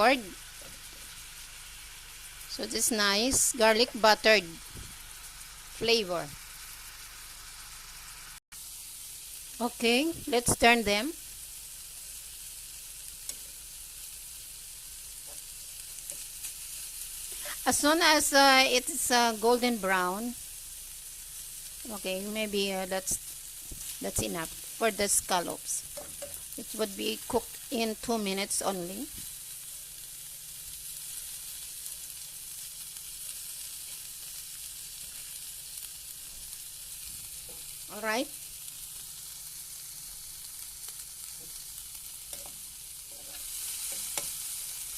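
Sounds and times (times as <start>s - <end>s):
scallops sizzling in a frying pan: 0.0s - 44.9s.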